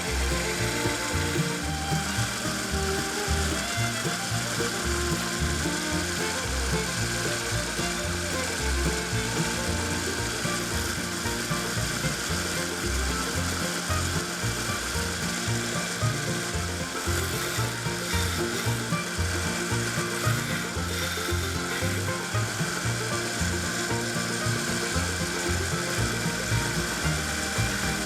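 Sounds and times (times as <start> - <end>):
background music with bass: 0.0 - 28.0
belt sander grinding metal: 0.0 - 28.0.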